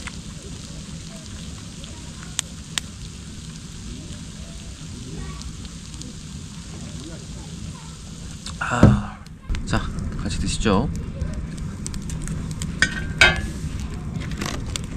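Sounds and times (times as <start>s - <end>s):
fire popping: 0.0s - 14.9s
wood fire hissing: 0.0s - 14.9s.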